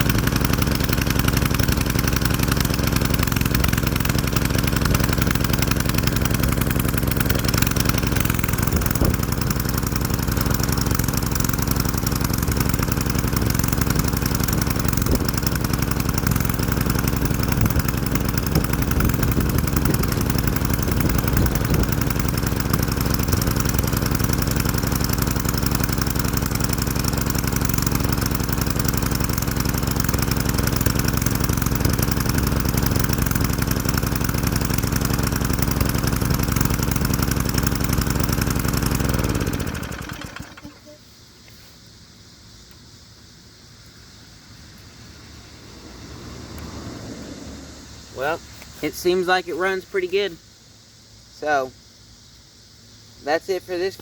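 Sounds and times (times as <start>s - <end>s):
small engine running steadily: 0.0s - 54.0s.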